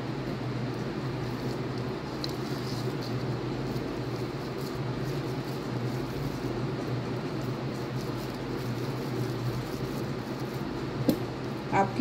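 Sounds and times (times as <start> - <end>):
low hum with hiss: 0.0 - 12.0
hands squishing moist mixture: 0.8 - 11.0.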